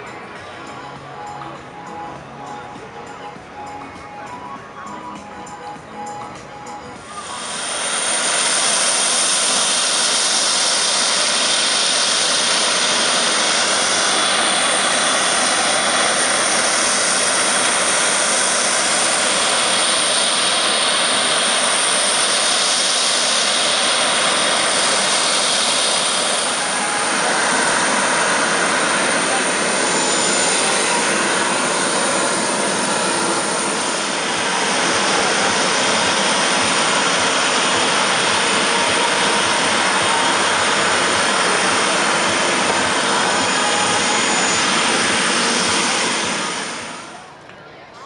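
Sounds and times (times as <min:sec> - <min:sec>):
jet engine roar with whine: 0:00.0 - 0:48.0.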